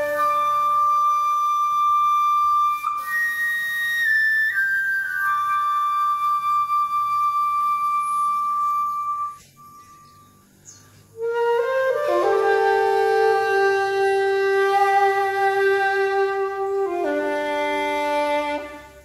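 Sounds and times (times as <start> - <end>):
flute held notes: 0.0 - 10.2, 11.2 - 19.0.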